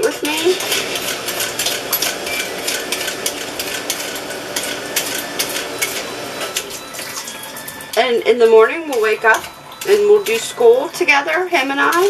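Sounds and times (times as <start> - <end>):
pump humming: 0.0 - 12.0
running tap water: 0.0 - 12.0.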